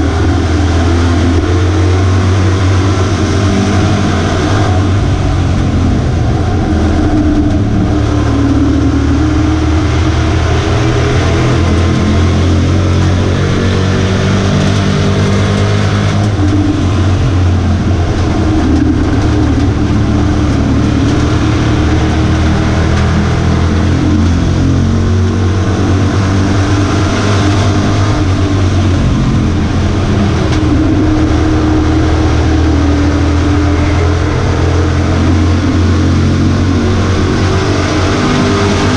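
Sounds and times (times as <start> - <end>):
racing truck engine: 0.0 - 38.9.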